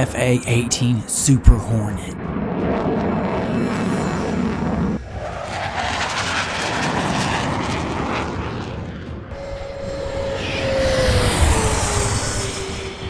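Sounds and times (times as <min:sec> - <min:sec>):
jet passing by: 0:02.2 - 0:13.0.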